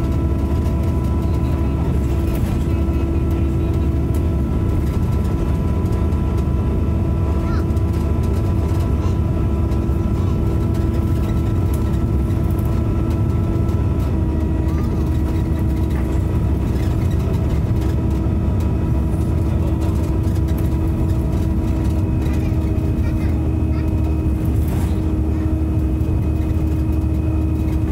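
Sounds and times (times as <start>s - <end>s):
diesel bus engine rumbling: 0.0s - 27.9s
steady engine whine: 0.0s - 27.9s.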